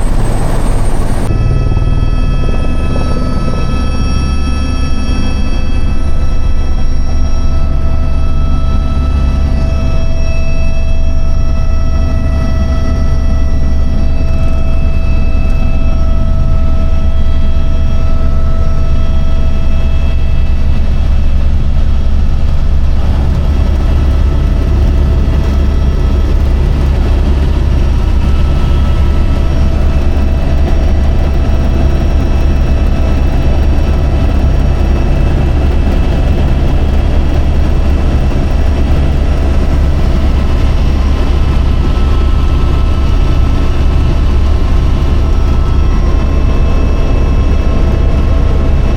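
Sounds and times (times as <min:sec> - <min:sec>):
helicopter cabin drone: 0:00.0 - 0:48.9
thin steady whine: 0:00.0 - 0:48.9.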